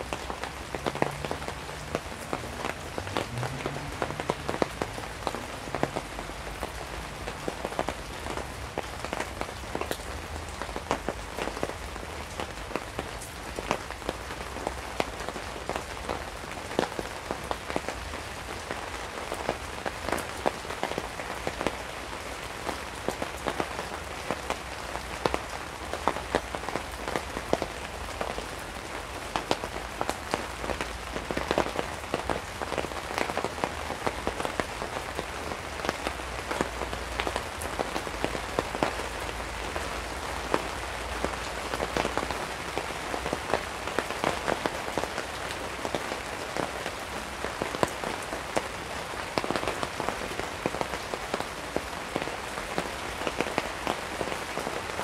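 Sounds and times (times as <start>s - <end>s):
rain falling on a tarp: 0.0s - 55.0s.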